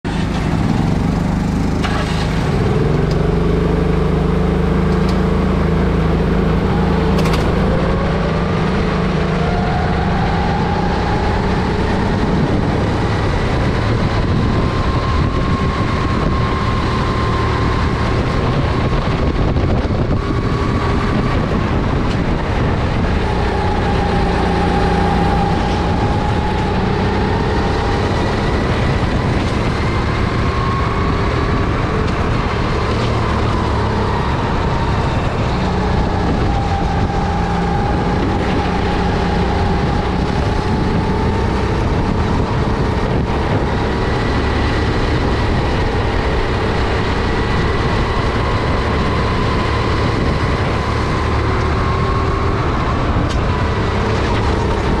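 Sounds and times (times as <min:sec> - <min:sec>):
kart engine accelerating: 0:00.0 - 0:55.0.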